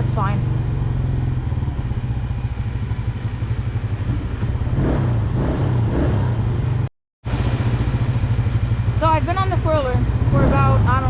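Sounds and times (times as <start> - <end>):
four-wheeler engine running: 0.0 - 11.0.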